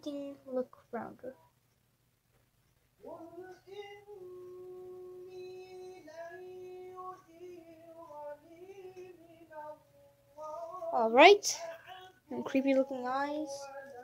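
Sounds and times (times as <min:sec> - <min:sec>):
girl singing softly: 0:00.0 - 0:01.5, 0:03.0 - 0:14.0.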